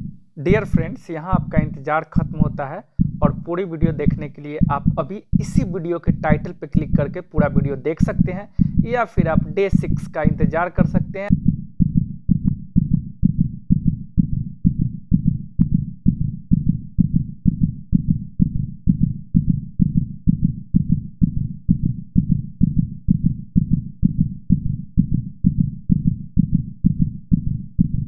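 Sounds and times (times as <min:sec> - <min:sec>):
heartbeat: 0:00.0 - 0:28.0.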